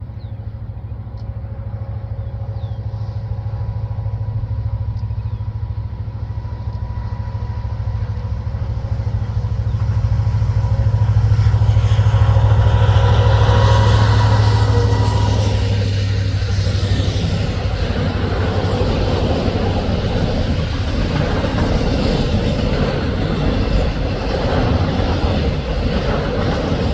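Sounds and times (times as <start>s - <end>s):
locomotive engines droning: 0.0s - 26.9s
wheel and rail noise: 0.0s - 26.9s.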